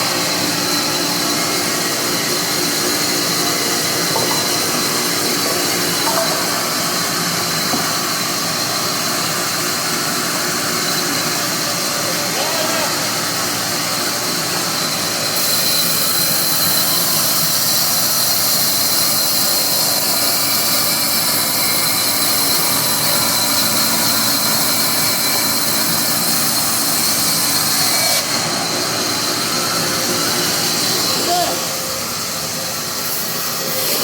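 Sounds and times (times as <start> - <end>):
sawmill saw running: 0.0 - 34.0.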